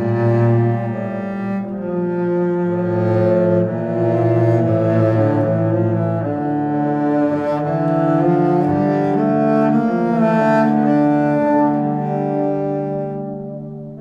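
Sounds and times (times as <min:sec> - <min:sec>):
slow sustained string notes: 0:00.0 - 0:14.0.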